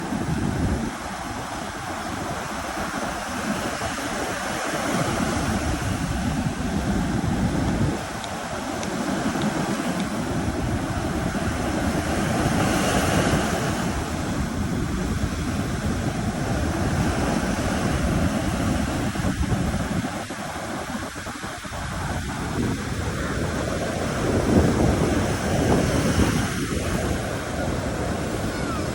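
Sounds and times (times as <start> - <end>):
surf washing onto beach: 0.0 - 28.9
wind buffeting microphone: 0.0 - 28.9.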